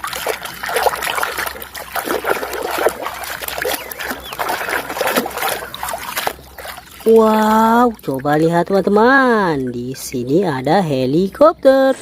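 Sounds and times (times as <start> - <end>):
water splashing and trickling: 0.0 - 11.6.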